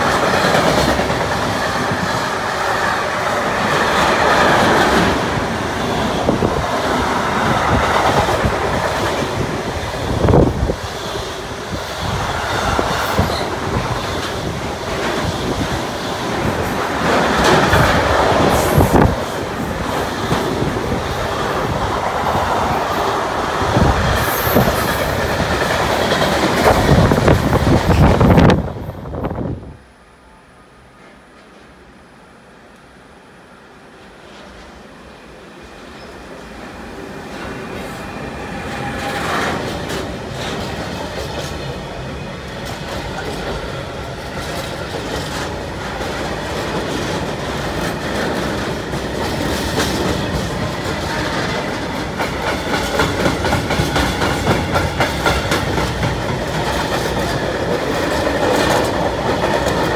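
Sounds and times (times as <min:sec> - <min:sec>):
train wheels clacking: 0:00.0 - 0:28.6, 0:37.3 - 0:59.9
train wagons rumbling past: 0:00.0 - 0:29.8, 0:33.7 - 0:59.9.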